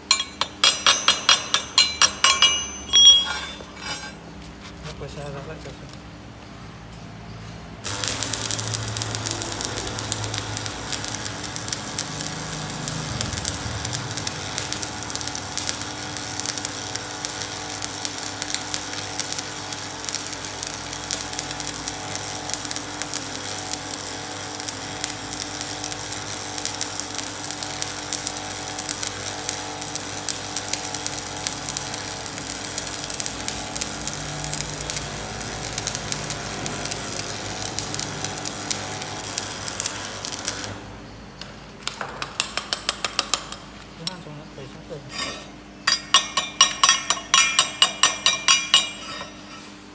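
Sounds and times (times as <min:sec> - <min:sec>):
welding arc crackling and sizzling: 0:00.0 - 0:04.2, 0:07.8 - 0:41.0, 0:41.8 - 0:49.9.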